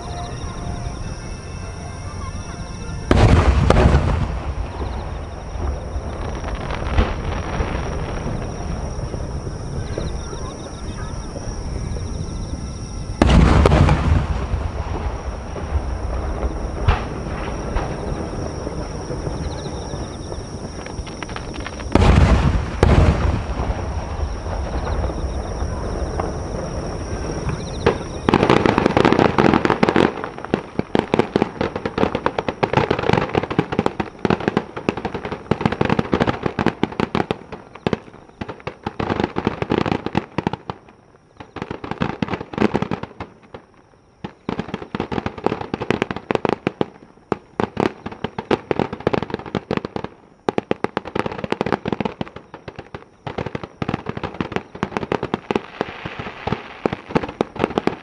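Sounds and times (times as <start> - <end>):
firework booms: 0.0 - 58.0
firework crackling and popping: 2.4 - 58.0.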